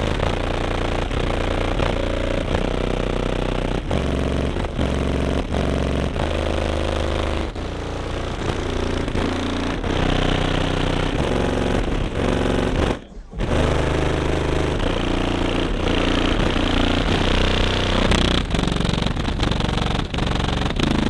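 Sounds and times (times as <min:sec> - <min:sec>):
loud bass-heavy music: 0:00.0 - 0:21.0.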